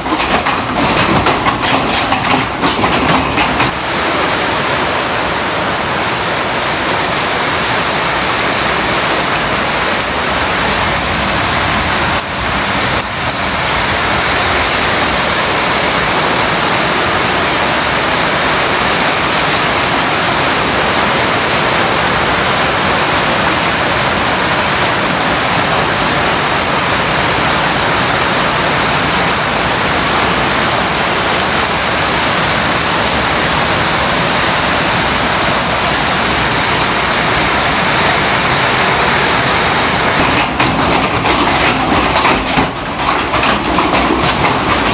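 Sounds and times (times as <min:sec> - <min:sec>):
hail and heavy rain pelting: 0:00.0 - 0:44.9.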